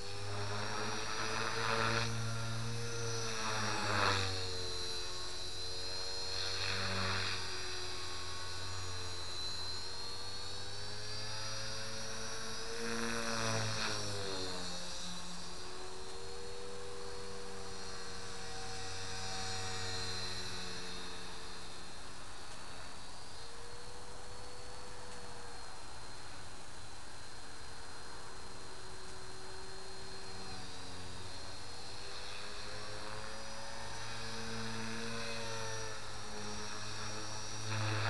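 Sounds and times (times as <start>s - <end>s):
helicopter motor and rotor whine: 0.0s - 38.0s.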